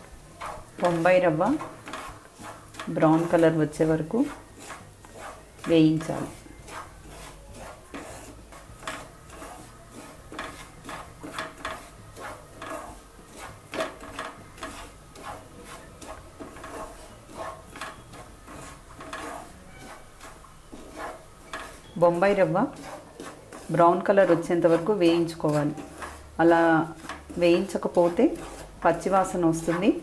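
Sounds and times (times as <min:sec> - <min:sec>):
spatula scraping frying pan: 0:00.0 - 0:30.0.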